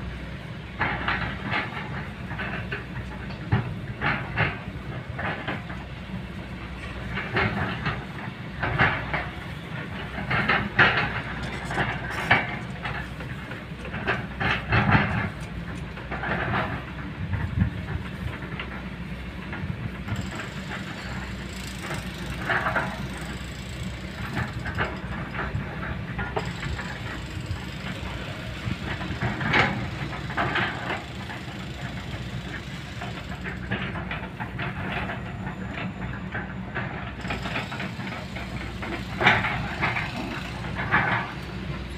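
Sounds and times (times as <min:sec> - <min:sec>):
excavator diesel engine running: 0:00.0 - 0:41.9
metallic clanks and knocks: 0:00.8 - 0:41.9.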